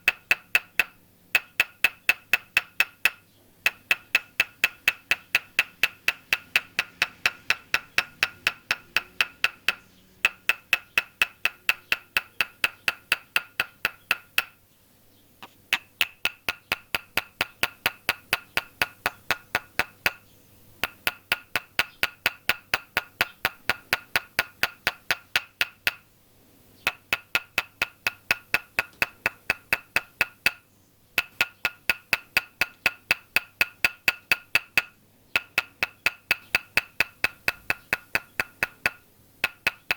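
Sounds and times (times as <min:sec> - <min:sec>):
wooden mallet tapping wooden peg: 0:00.0 - 0:14.6, 0:15.4 - 0:20.2, 0:20.8 - 0:26.1, 0:26.8 - 0:39.9.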